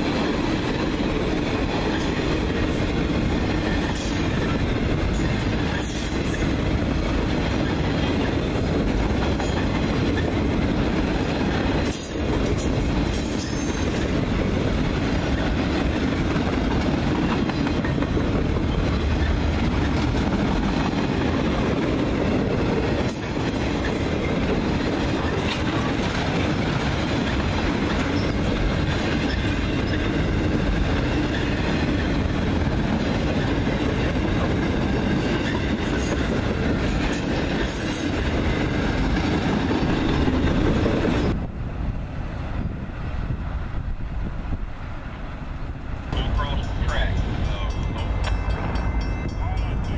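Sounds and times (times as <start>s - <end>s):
train wheels clacking over rails: 0.0s - 41.4s, 46.0s - 49.9s.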